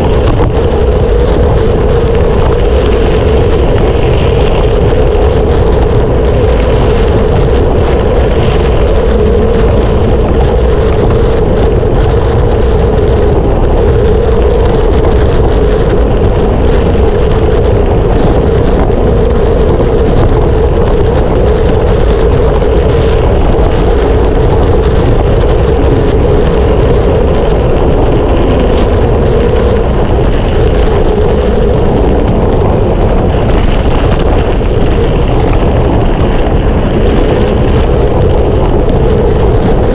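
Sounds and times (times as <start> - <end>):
bike tyres rolling: 0.0 - 39.9
wind on microphone: 0.0 - 39.9.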